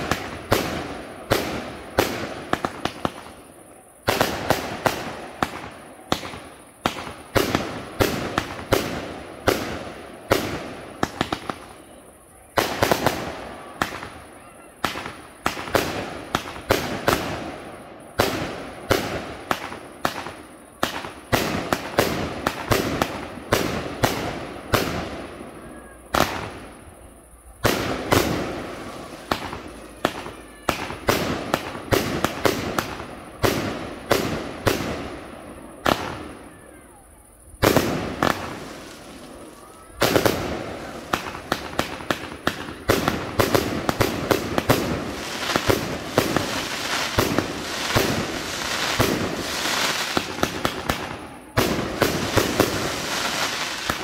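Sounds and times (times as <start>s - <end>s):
fireworks bursting with sharp bangs: 0.0s - 54.0s.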